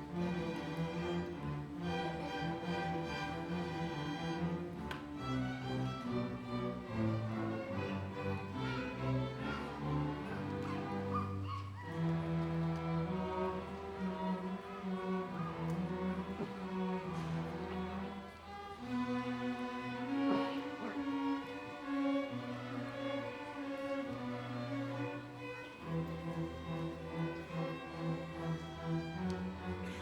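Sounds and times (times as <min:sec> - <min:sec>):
bowed strings playing slow music: 0:00.0 - 0:30.0.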